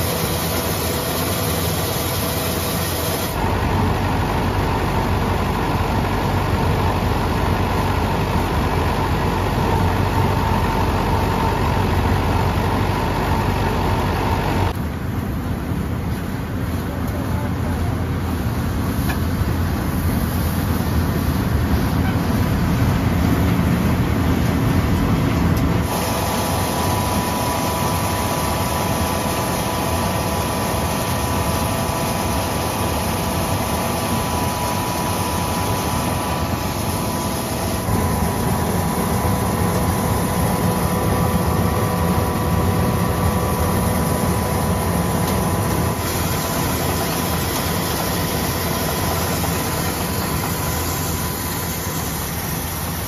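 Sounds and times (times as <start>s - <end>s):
threshing machine droning: 0.0s - 14.8s, 16.6s - 53.0s.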